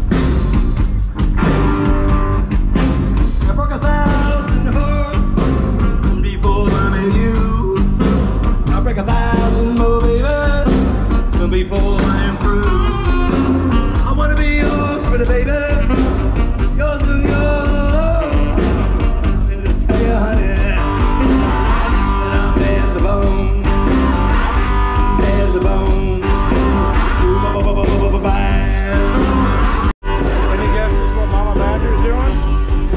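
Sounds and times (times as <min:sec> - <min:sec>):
live rock band playing: 0:00.0 - 0:32.9
person singing: 0:03.4 - 0:32.9.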